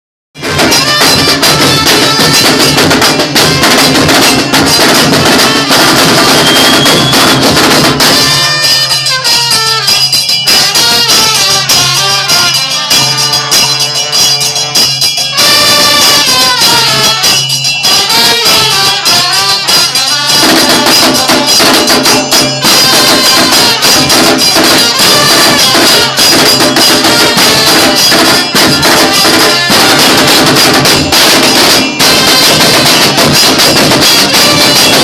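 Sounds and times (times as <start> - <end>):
band music with percussion: 0.4 - 35.0.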